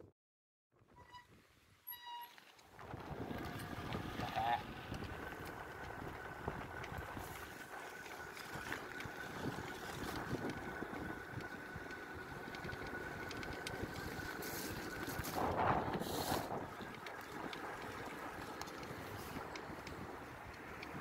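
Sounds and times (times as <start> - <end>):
tyres on wet gravel: 2.2 - 21.0
wind on microphone: 2.8 - 21.0.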